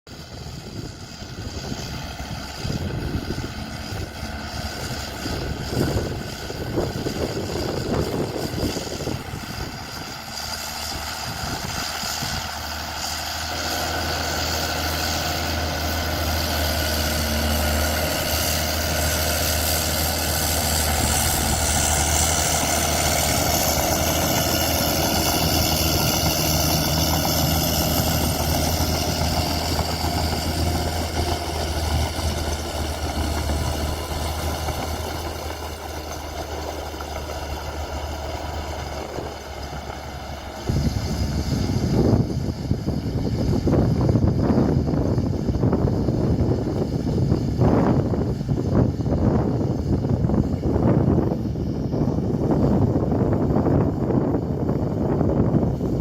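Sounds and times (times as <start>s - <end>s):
bulldozer diesel engine running: 0.1s - 56.0s.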